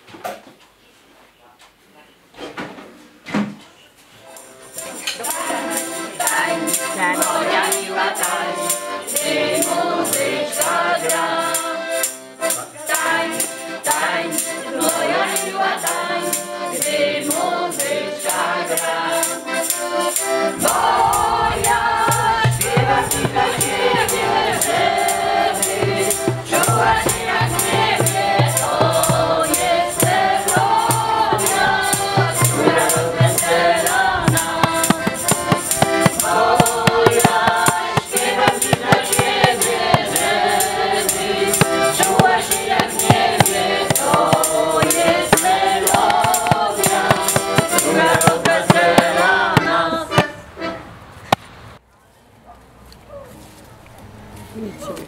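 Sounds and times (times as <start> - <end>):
musical accompaniment: 4.2 - 51.0
shaker rhythm: 4.3 - 50.2
women singing in chorus: 5.2 - 12.1, 12.9 - 50.4.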